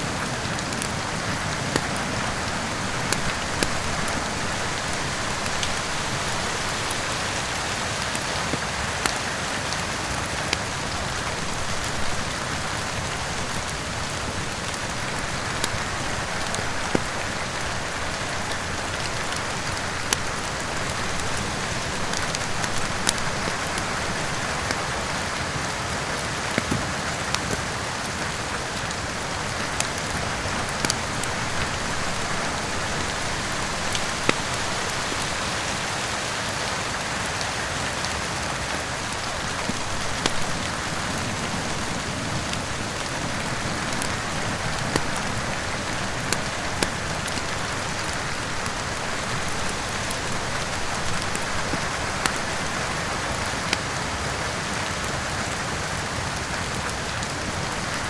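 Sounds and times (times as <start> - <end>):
heavy rain: 0.0 - 58.0
wood fire crackling: 0.0 - 58.0.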